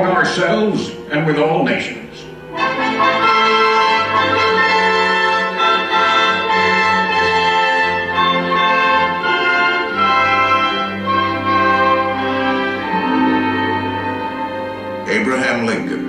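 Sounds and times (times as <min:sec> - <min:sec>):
orchestral music over speakers: 0:00.0 - 0:16.0.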